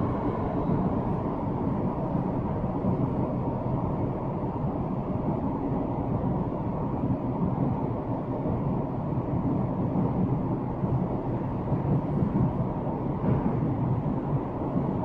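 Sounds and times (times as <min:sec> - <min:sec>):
train rumbling through tunnel: 0:00.0 - 0:15.0.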